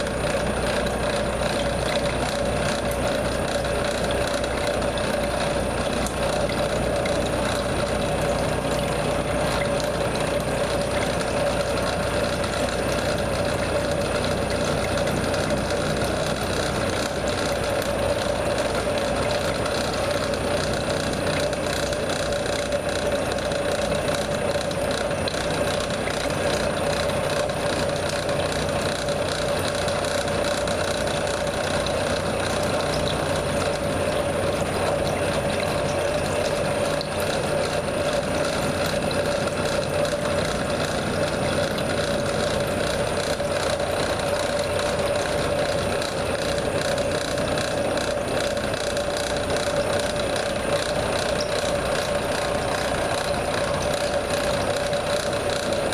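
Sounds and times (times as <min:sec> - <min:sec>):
milling machine cutting with whine: 0:00.0 - 0:55.9.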